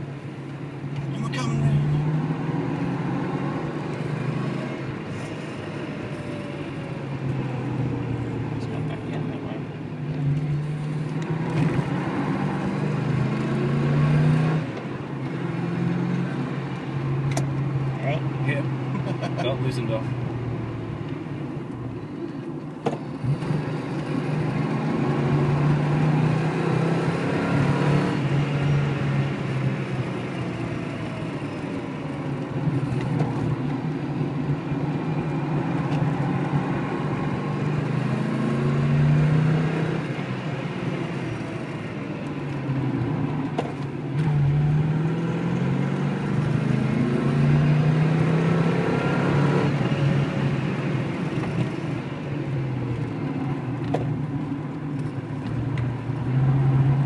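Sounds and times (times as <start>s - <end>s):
car engine accelerating: 0.5s - 57.0s.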